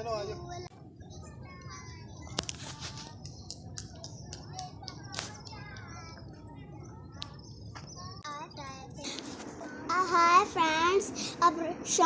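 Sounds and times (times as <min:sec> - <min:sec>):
faint distant voices: 0:00.0 - 0:12.0
outdoor background noise: 0:00.0 - 0:12.0.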